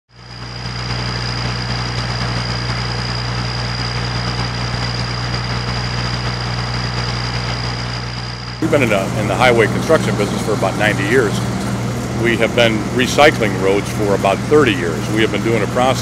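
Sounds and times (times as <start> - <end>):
construction machinery engine hum: 0.1 - 16.0
high whine: 0.1 - 16.0.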